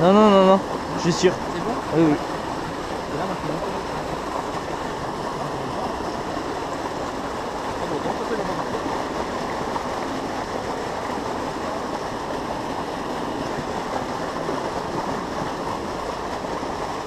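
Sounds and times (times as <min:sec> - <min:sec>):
water rushing over cascade: 0:00.0 - 0:17.0.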